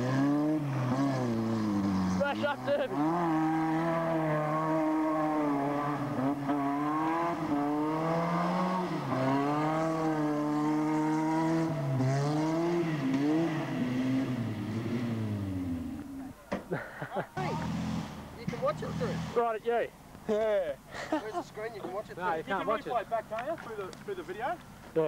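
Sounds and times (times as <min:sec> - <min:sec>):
car engines revving: 0:00.0 - 0:25.0.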